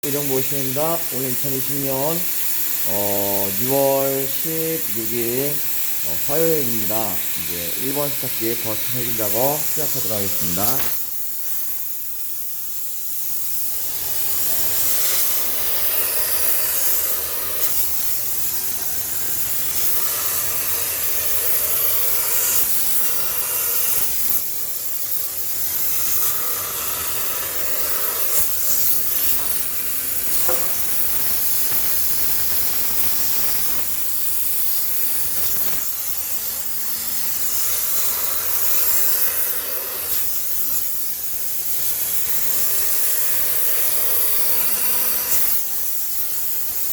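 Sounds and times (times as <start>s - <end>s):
steam cleaner hissing: 0.0s - 46.9s.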